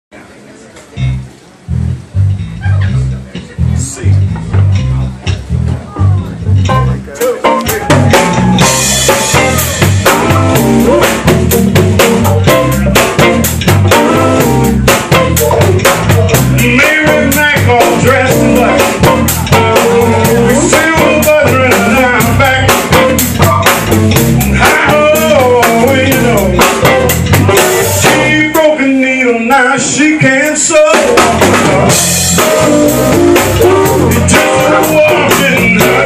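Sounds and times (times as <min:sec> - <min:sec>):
blues band playing: 0:00.5 - 0:36.0
bending melody line: 0:01.0 - 0:36.0
drum kit rimshots and bass drum: 0:01.0 - 0:36.0.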